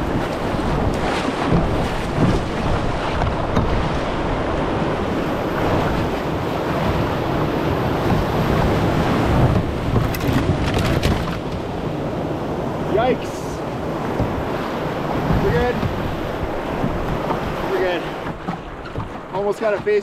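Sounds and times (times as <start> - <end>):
whitewater rapids rushing: 0.0 - 20.0.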